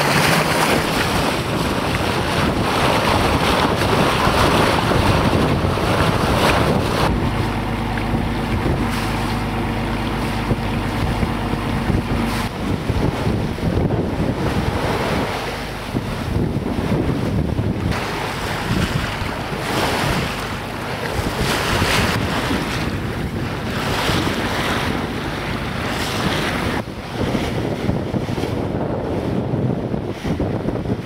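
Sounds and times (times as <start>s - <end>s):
water washing along boat hull: 0.0s - 31.0s
wind buffeting microphone: 0.0s - 31.0s.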